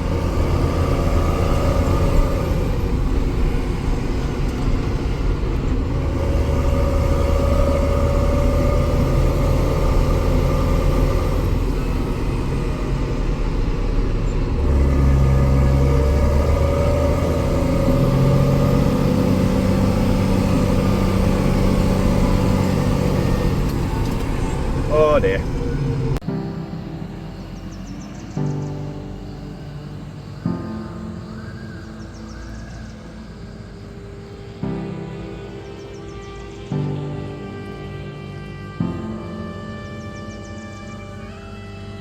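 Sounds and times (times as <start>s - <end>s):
tractor engine running: 0.0s - 38.6s.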